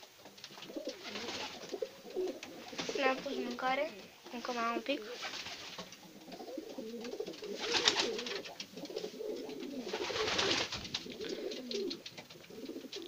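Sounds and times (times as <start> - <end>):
pigeons cooing: 0.0 - 4.1, 5.0 - 13.0.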